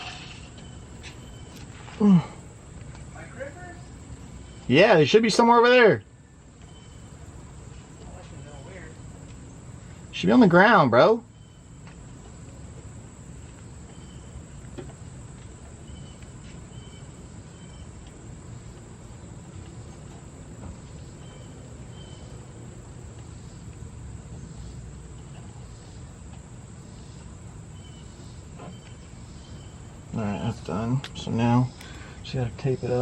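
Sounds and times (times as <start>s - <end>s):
crickets chirping: 0.0s - 33.0s
low background hum: 0.0s - 33.0s.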